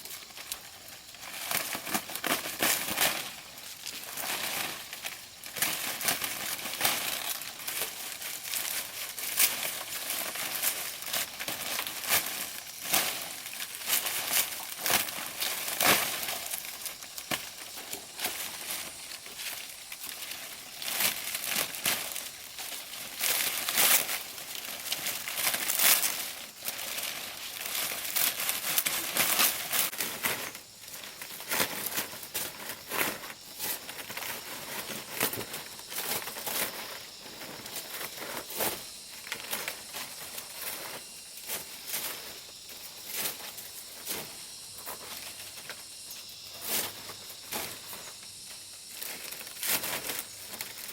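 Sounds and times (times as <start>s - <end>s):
dry leaves rustling and crackling: 0.0s - 50.9s.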